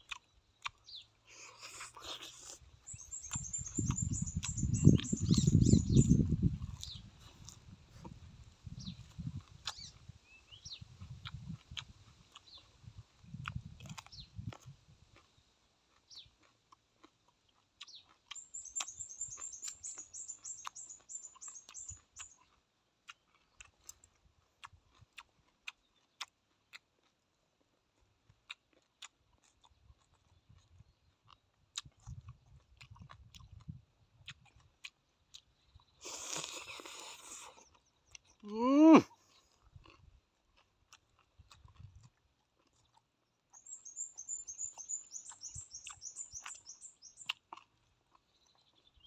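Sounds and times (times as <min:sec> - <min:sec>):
person chewing: 0:00.0 - 0:49.0.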